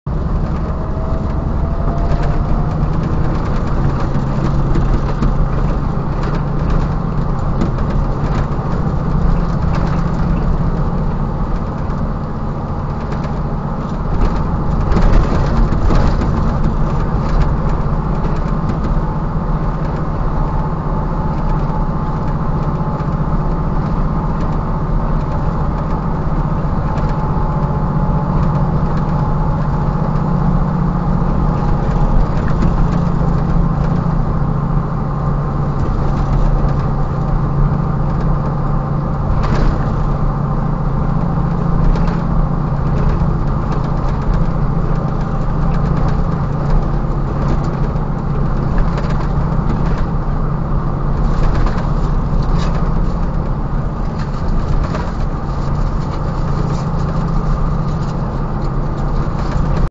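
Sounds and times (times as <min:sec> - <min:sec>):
diesel truck engine running: 0:00.0 - 0:59.9
truck rattling and knocking: 0:00.1 - 0:59.9.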